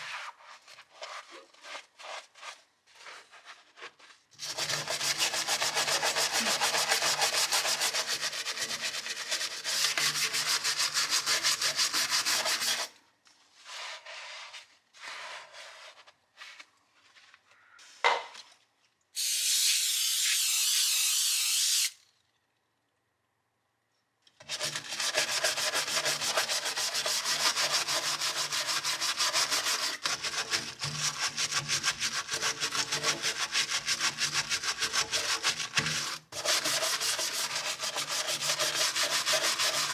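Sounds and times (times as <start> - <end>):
rubbing strokes: 0.0 - 17.3, 24.9 - 39.9.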